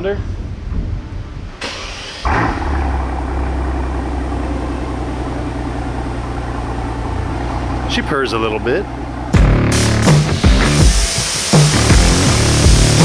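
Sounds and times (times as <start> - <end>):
car engine starting and idling: 1.6 - 13.0.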